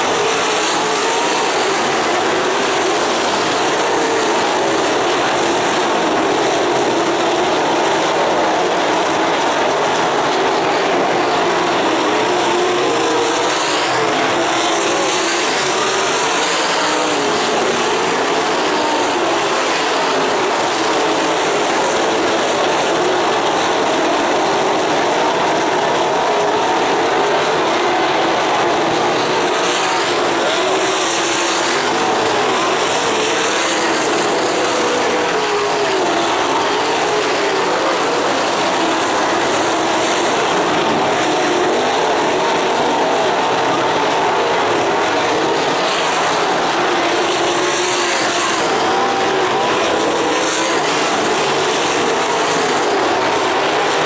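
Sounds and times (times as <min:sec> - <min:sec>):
racing car engines passing: 0:00.0 - 0:54.0.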